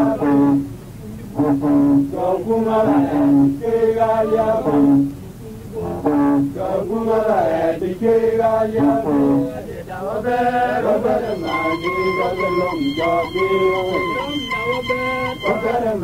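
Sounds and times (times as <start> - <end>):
person singing in chant style: 0.0 - 16.0.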